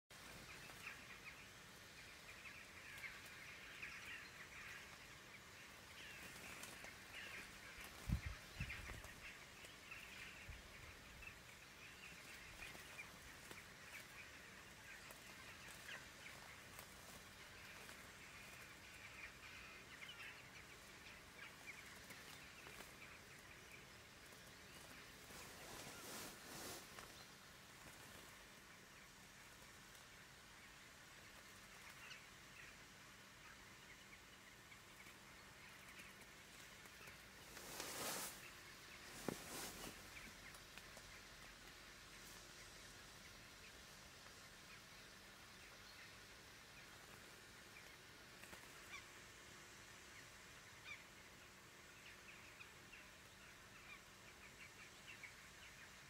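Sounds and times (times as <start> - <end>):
faint birds chirping: 0.1 - 56.0.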